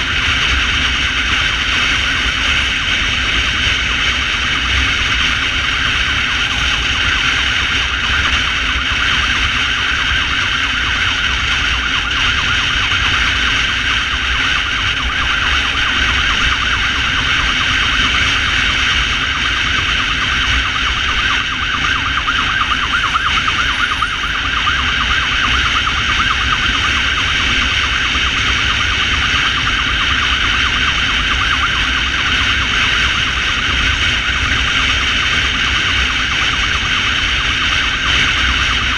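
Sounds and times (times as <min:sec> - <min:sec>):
motorcycle engine: 0:00.0 - 0:38.9
warbling emergency siren: 0:00.0 - 0:38.9
wind rumble on microphone: 0:00.0 - 0:38.9.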